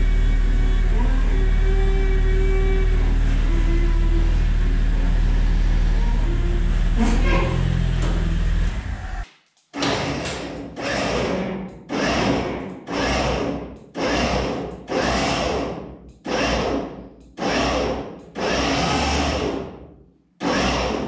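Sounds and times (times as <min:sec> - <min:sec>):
electric winch motor pulses: 0:00.0 - 0:09.2, 0:09.8 - 0:19.7, 0:20.4 - 0:21.0.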